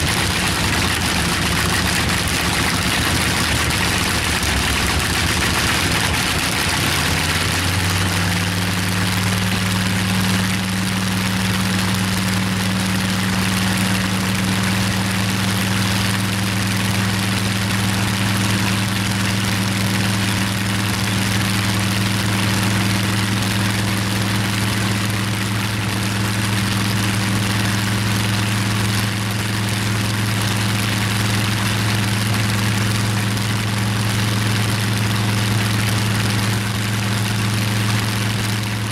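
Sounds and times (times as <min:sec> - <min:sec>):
radial engine running: 0:00.0 - 0:38.9.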